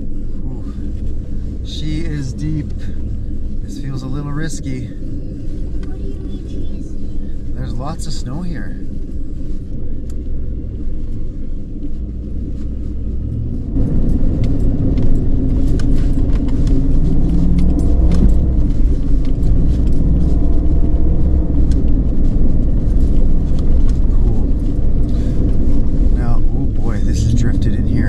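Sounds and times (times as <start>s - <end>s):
car engine and tyres in snow: 0.0s - 28.0s.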